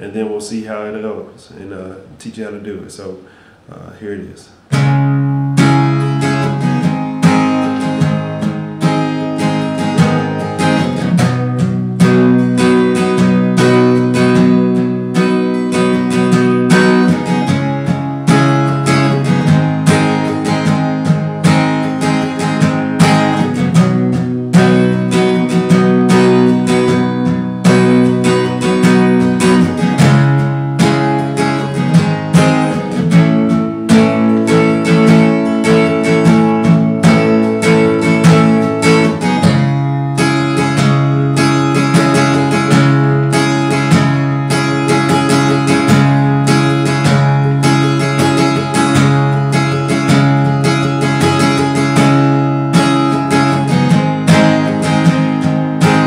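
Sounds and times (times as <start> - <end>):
acoustic guitar strumming: 4.4 - 56.0.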